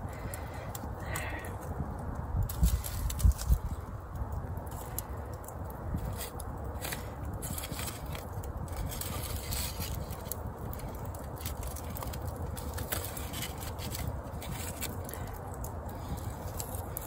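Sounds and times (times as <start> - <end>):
campfire coals crackling and popping: 0.0 - 17.0
wooden stick scraping coals: 0.1 - 17.0.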